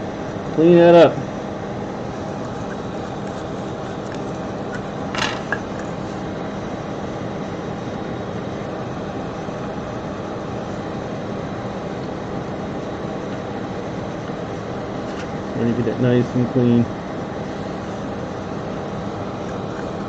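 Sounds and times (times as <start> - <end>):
faint hum: 0.0 - 20.0
fan whirring: 0.0 - 20.0.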